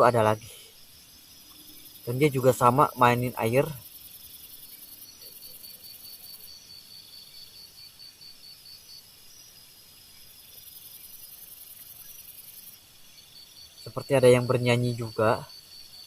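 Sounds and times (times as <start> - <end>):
crickets chirping: 0.0 - 16.0
high insect hum: 0.0 - 16.0.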